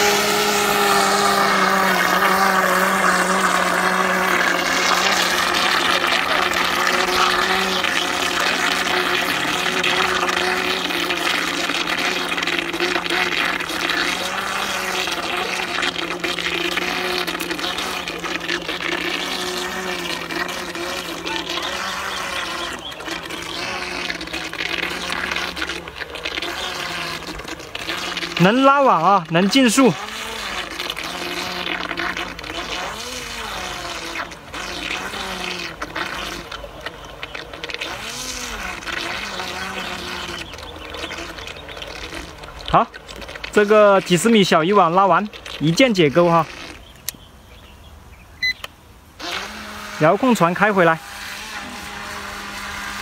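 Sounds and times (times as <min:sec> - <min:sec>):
electric motor humming: 0:00.0 - 0:47.1, 0:49.2 - 0:53.0
propeller churning water: 0:00.0 - 0:53.0.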